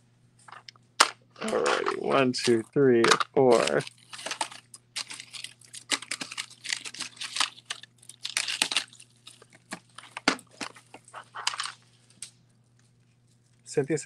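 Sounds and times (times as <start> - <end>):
plastic crinkling: 1.4 - 13.8.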